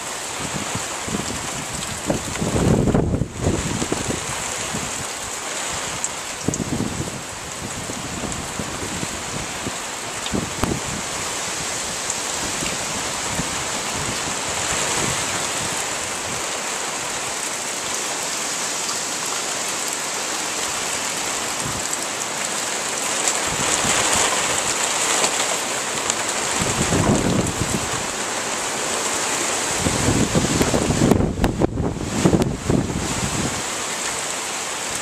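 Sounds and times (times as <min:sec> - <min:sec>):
wind rumbling on microphone: 0:00.0 - 0:17.4, 0:20.8 - 0:22.2, 0:23.1 - 0:33.8
heavy rain pouring: 0:00.0 - 0:35.0
wind tossing trees: 0:00.0 - 0:35.0.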